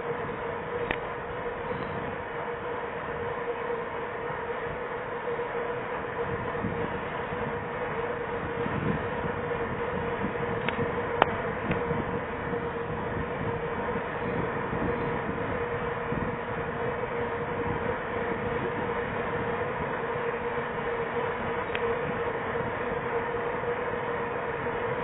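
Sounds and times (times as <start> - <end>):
wind on microphone: 0.0 - 3.4, 5.7 - 25.0
bicycle tyre rumble: 0.0 - 25.0
steady hum: 0.0 - 25.0.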